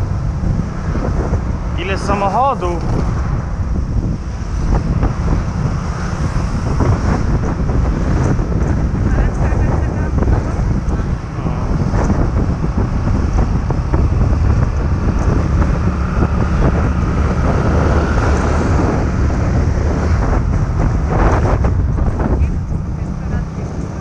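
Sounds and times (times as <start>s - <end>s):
scooter running noise: 0.0s - 24.0s
wind buffeting microphone: 0.0s - 24.0s.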